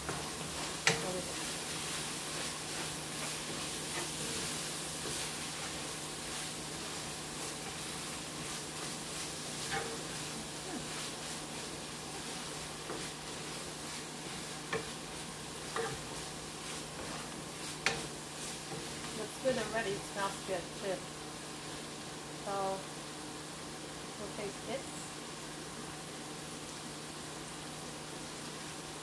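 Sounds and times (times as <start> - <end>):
meat sizzling in a skillet: 0.0 - 29.0.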